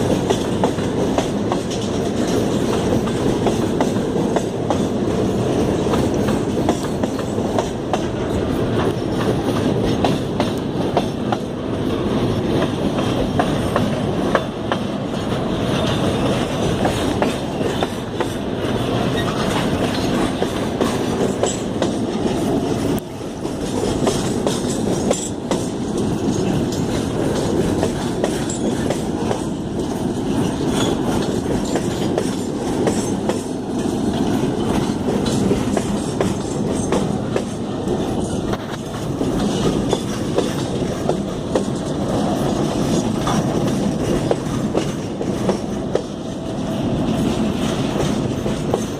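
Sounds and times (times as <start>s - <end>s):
freight train wagons rolling: 0.0s - 48.9s
wheels clicking over rail joints: 0.0s - 48.9s.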